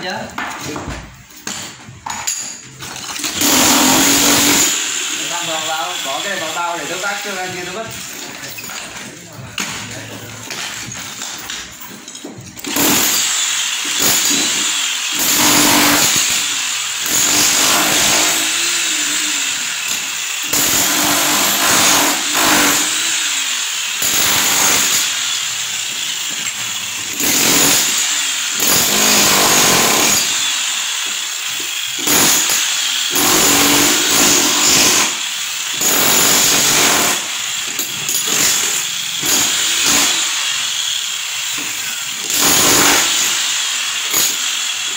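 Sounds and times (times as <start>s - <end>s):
power tool on masonry: 0.0s - 44.9s.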